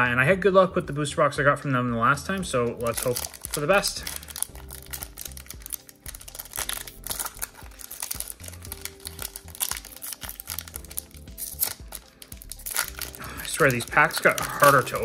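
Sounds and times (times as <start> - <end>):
quiet background music: 0.0 - 15.0
foil wrapper crinkling: 2.7 - 15.0.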